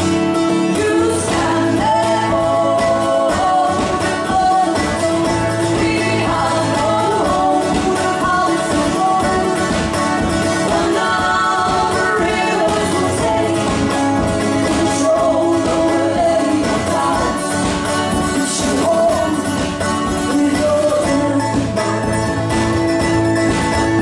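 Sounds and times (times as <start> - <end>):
mandolin: 0.0 - 24.0
strummed acoustic guitar: 0.0 - 24.0
two women singing: 0.4 - 22.5.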